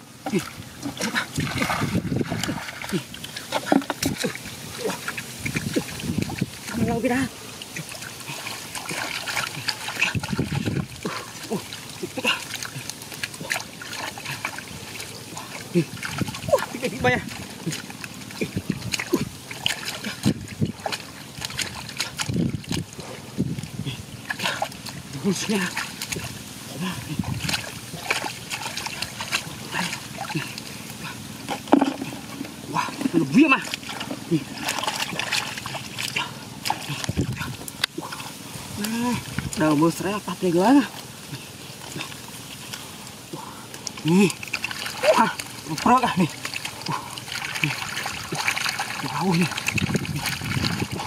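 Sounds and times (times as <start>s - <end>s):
water splashing and trickling: 0.0s - 51.0s
plastic basket scooping water: 0.2s - 23.0s, 23.6s - 39.7s, 43.8s - 51.0s.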